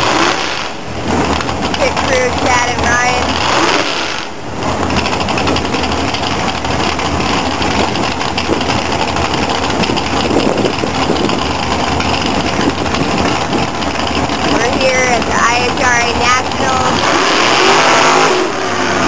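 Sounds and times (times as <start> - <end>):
dragster engine running: 0.0 - 19.0.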